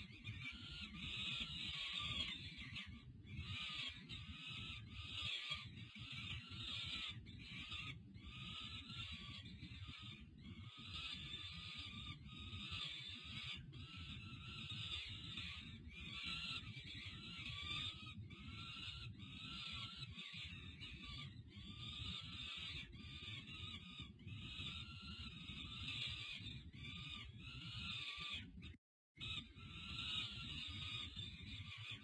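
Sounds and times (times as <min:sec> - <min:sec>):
falcon chicks begging calls: 0:00.0 - 0:32.0.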